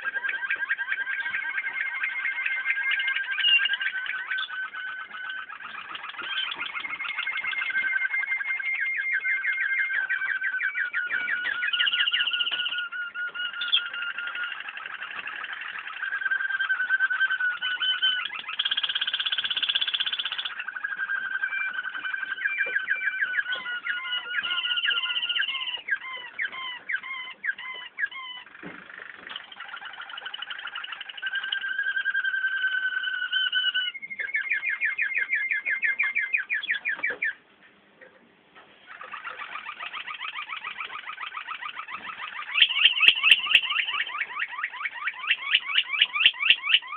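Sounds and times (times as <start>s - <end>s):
canaries singing trills: 0.0s - 46.9s.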